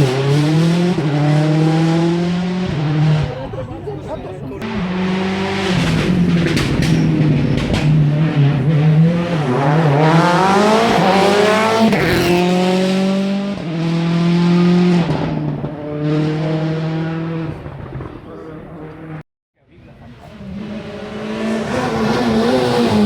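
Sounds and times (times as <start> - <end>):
rally car engine at high revs: 0.0 - 3.7, 4.6 - 19.2, 20.0 - 23.0.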